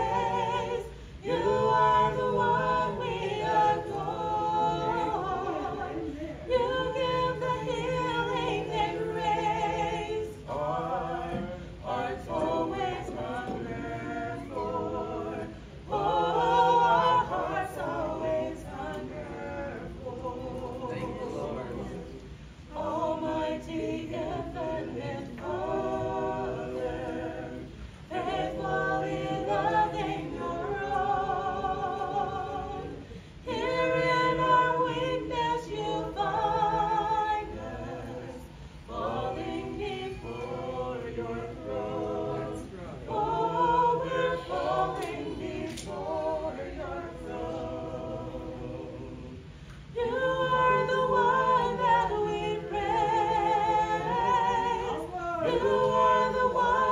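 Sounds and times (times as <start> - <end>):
voices singing unaccompanied: 0.0 - 56.9.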